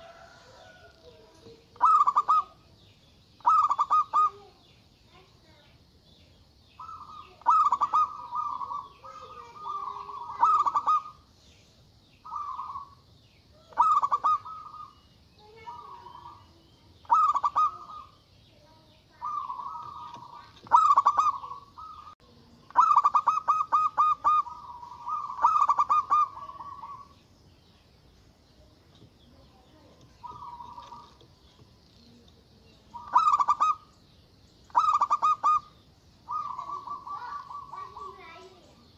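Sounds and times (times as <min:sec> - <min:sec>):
dove cooing: 0:00.0 - 0:05.3, 0:06.8 - 0:11.3, 0:12.2 - 0:13.0, 0:13.6 - 0:18.2, 0:19.1 - 0:27.2, 0:29.6 - 0:33.9, 0:34.7 - 0:38.8.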